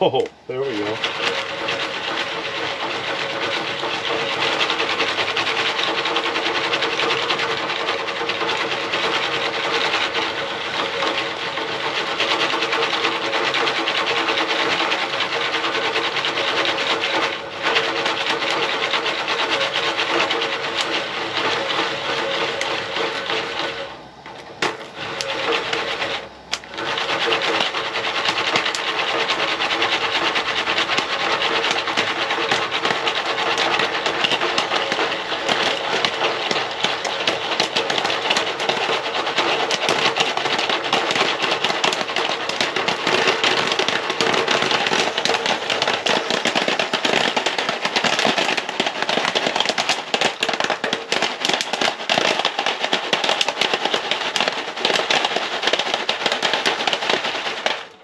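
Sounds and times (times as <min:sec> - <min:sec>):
popcorn kernels rattling in pan: 0:00.0 - 0:58.0.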